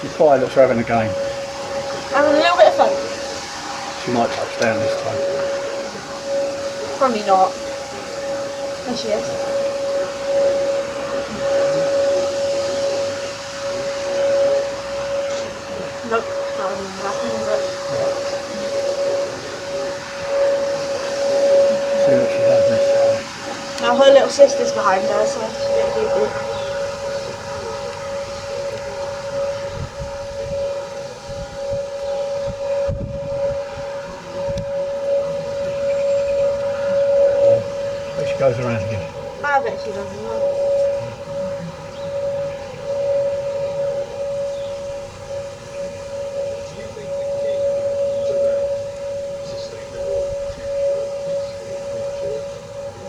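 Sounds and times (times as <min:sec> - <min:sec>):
jet engines whining: 0:00.0 - 0:53.0
wind gusting on microphone: 0:00.0 - 0:53.0.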